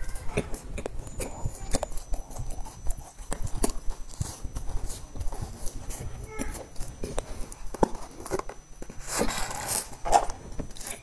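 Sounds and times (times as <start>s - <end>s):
crunchy chewing of crispy bar: 0.0s - 11.0s.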